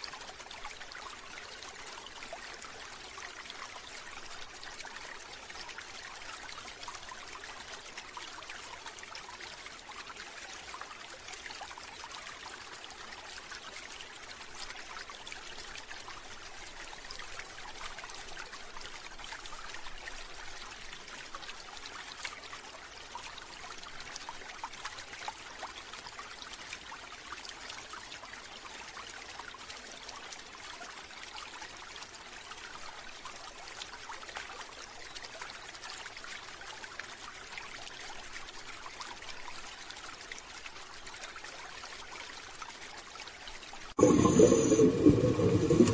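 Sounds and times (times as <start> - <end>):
running water trickling and splashing: 0.0 - 45.9.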